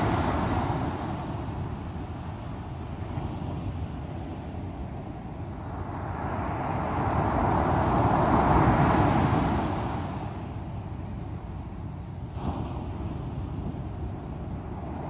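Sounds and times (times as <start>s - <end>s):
sea waves on the shore: 0.0s - 15.0s.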